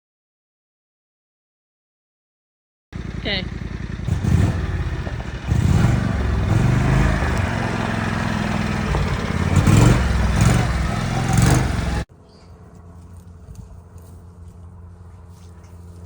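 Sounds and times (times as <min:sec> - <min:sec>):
faint outdoor background: 0:03.0 - 0:16.0
utility vehicle engine running: 0:03.0 - 0:16.0.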